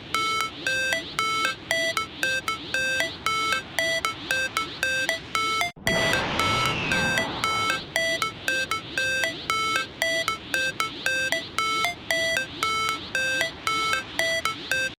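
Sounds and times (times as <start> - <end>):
electronic siren multi-tone beeping: 0.0 - 15.0.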